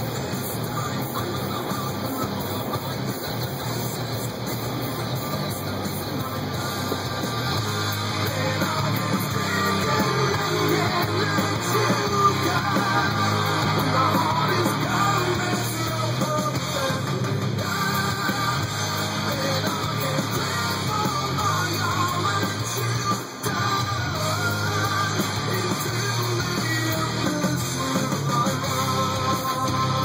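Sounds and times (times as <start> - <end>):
electric guitar: 0.0 - 30.0
hard rock music: 0.0 - 30.0.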